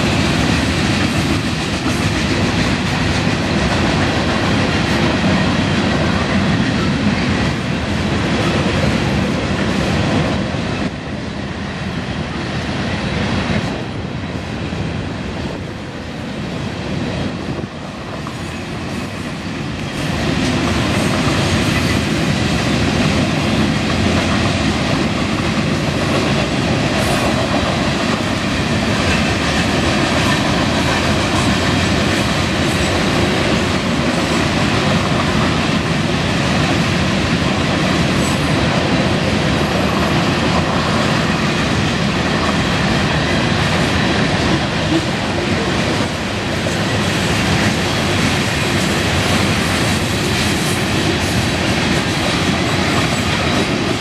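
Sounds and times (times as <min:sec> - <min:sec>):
freight train wheels on rail: 0:00.0 - 0:54.0.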